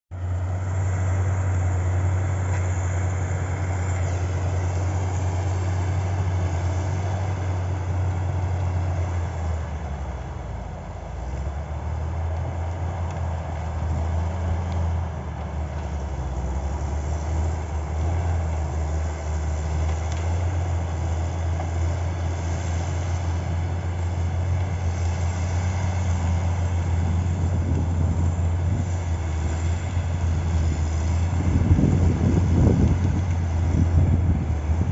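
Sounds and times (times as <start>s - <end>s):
diesel engine running under load: 0.1s - 34.9s.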